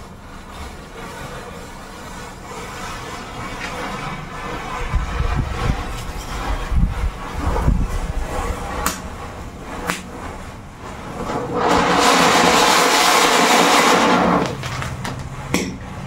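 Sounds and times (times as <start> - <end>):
pyrotechnic fizz: 0.0 - 15.1.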